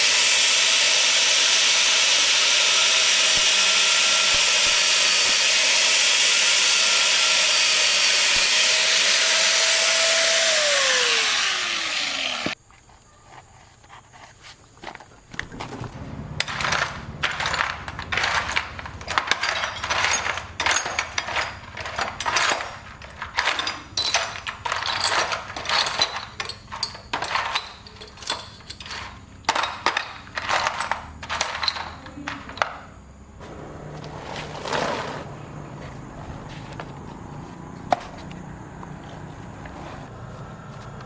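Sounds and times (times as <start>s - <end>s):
hand tools scraping metal: 0.0s - 37.0s.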